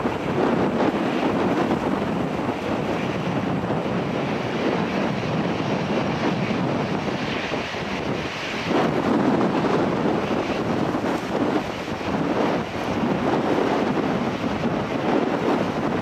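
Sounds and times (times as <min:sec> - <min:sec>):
jet engines rushing: 0:00.0 - 0:16.0
wind buffeting microphone: 0:00.0 - 0:16.0.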